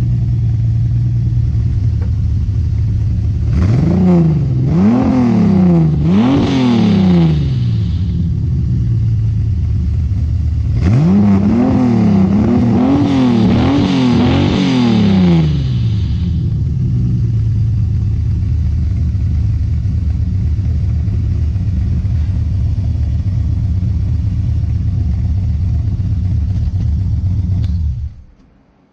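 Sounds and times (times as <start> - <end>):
car engine revving and idling: 0.0 - 28.9.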